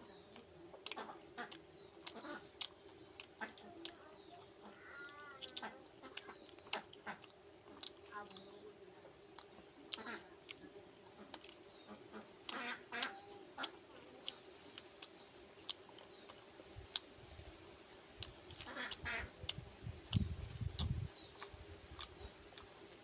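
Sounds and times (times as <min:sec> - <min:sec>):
man chewing food: 0:00.1 - 0:23.0.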